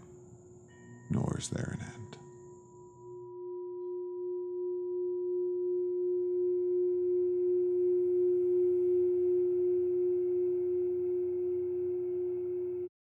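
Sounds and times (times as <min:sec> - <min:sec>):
faint higher tone: 0:00.0 - 0:12.9
steady pure tone drone: 0:00.0 - 0:12.9.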